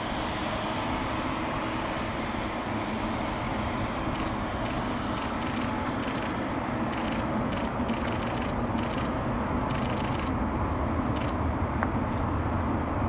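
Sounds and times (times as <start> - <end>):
jet engines rumbling while taxiing: 0.0 - 13.0.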